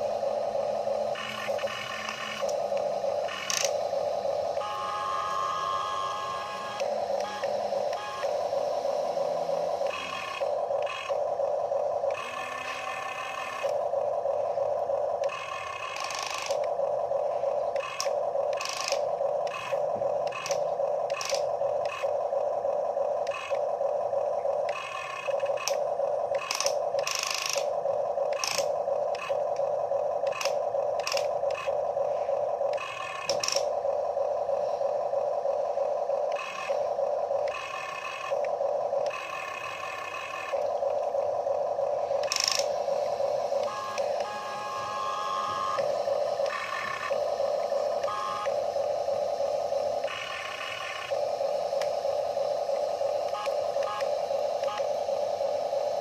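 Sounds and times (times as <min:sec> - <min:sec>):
electric gear motors whining: 0:00.0 - 0:56.0.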